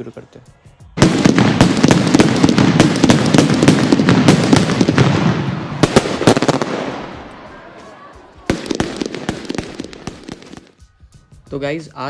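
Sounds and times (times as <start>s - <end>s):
fireworks bangs and crackles: 1.0s - 10.9s.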